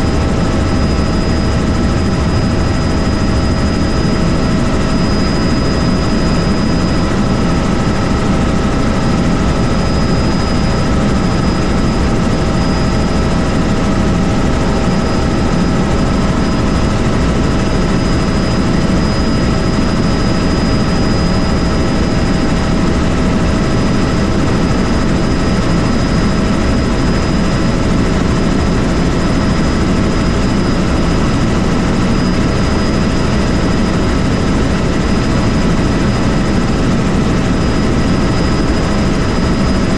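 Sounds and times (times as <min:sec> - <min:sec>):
helicopter rotor and engine: 0:00.0 - 0:39.9
high whine: 0:00.0 - 0:39.9.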